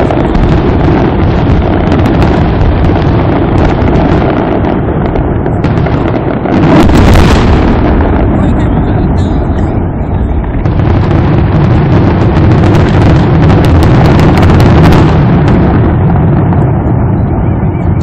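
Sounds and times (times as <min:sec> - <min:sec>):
firecracker barrage: 0:00.0 - 0:18.0.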